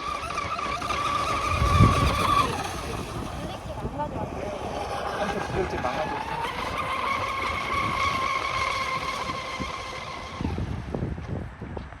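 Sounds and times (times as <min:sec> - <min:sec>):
electric motor whining: 0:00.0 - 0:11.4.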